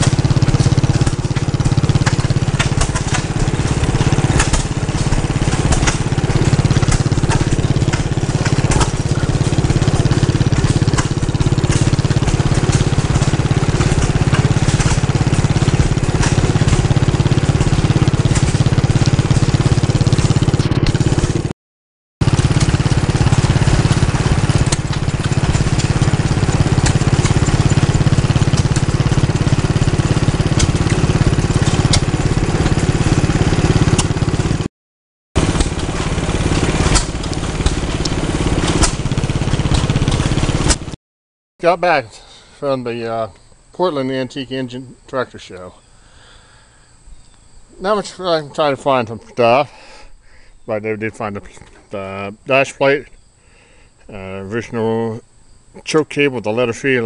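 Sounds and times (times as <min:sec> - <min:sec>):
farm engines running: 0:00.0 - 0:21.5, 0:22.2 - 0:34.7, 0:35.4 - 0:41.0, 0:47.7 - 0:55.2, 0:55.8 - 0:57.0.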